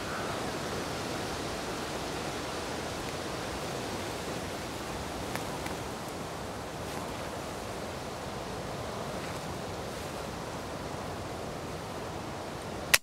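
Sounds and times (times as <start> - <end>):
strong wind through trees: 0.0 - 13.0.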